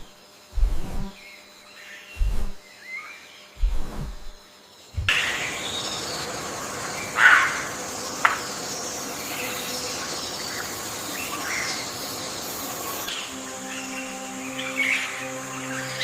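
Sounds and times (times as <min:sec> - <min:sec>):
hiss of insects: 0:00.0 - 0:16.0.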